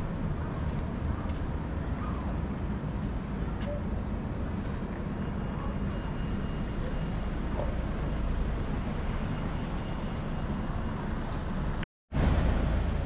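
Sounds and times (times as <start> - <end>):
city ambience with low rumble: 0.0 - 13.0.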